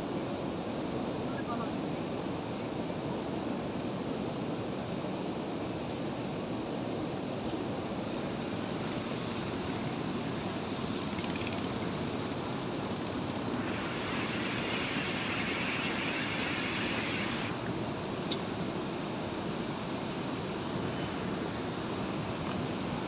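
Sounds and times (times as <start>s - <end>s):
brighter hiss: 2.3s - 23.0s.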